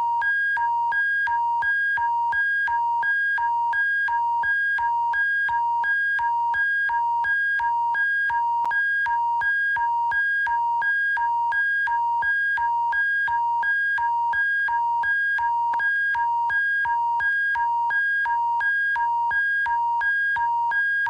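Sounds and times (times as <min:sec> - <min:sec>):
alternating two-tone alert signal: 0:00.0 - 0:21.0.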